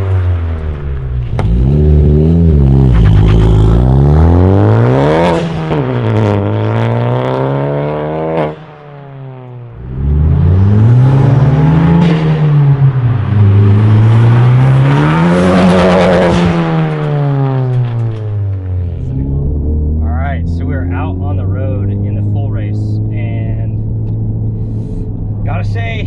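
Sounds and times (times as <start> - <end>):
car exhaust accelerating: 0.0 - 26.0.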